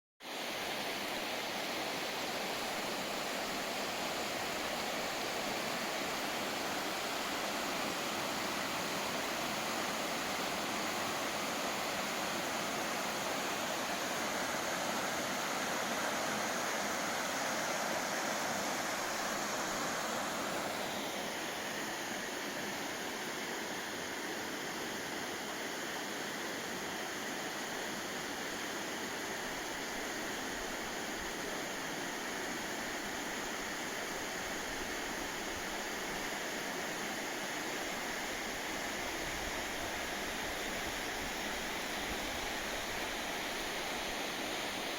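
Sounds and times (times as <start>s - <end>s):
river water rushing: 0.2s - 44.9s.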